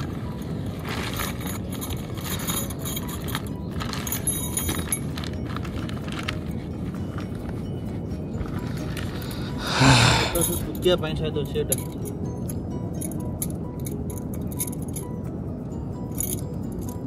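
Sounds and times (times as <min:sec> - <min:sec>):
metal tent stakes clinking in bag: 0:00.0 - 0:15.3, 0:16.0 - 0:17.0.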